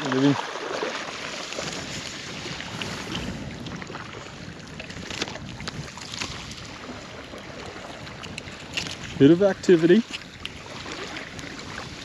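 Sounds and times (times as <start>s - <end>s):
rushing water: 0.0s - 12.0s
wind: 0.0s - 12.0s.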